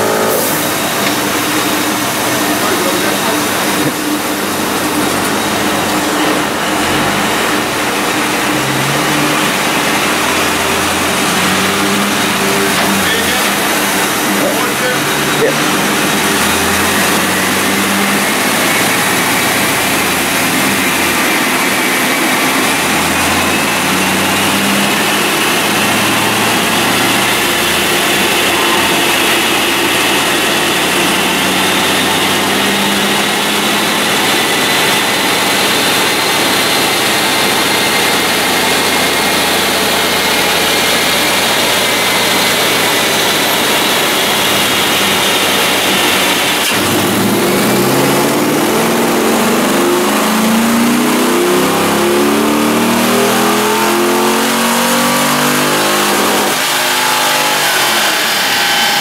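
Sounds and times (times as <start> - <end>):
car engine running loud: 0.0 - 59.0
rising whine: 0.0 - 59.0.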